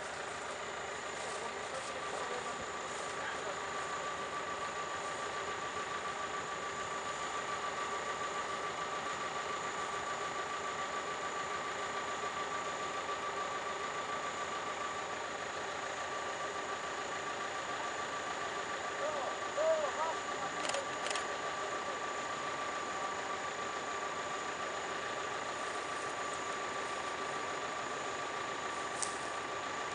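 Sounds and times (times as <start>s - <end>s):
engine hum with high whine: 0.0s - 29.9s.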